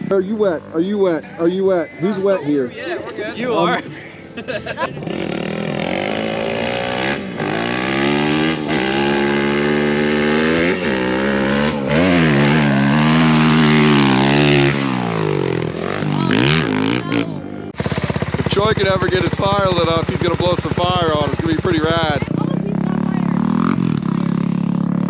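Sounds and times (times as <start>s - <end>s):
off-road vehicle engine revving: 0.0s - 2.4s, 4.8s - 25.0s.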